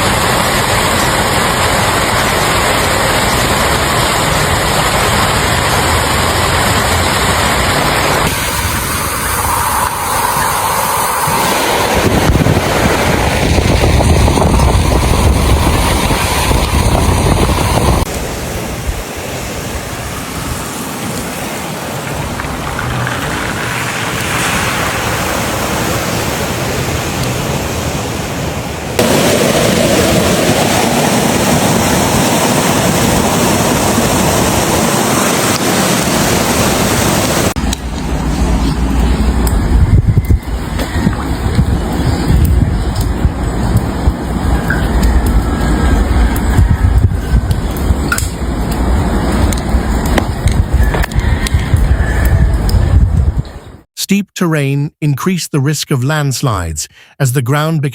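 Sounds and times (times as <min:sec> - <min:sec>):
wind and water roaring: 0:00.0 - 0:53.9.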